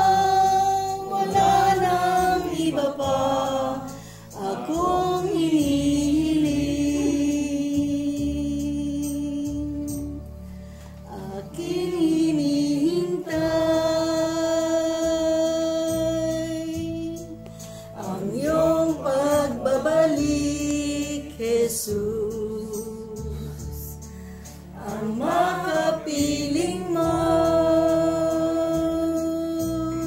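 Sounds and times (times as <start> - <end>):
group singing a slow hymn: 0.0 - 30.0.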